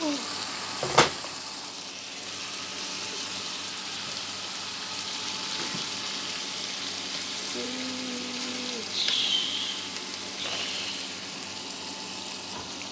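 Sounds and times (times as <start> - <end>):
food sizzling in a frying pan: 0.0 - 12.9.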